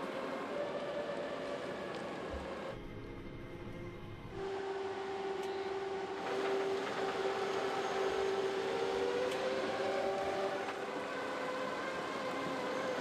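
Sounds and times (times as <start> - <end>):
electric hum with sustained tones: 0.0 - 13.0.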